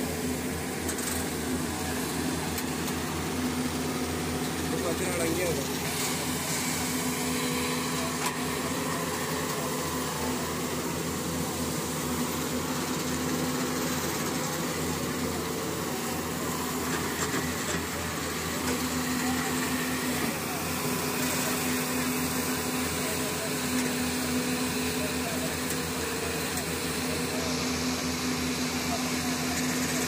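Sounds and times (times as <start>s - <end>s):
excavator diesel engines droning: 0.0s - 30.0s.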